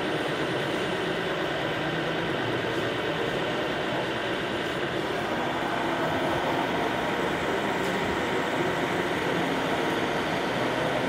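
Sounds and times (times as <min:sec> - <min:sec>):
busy hall background din: 0:00.0 - 0:11.0.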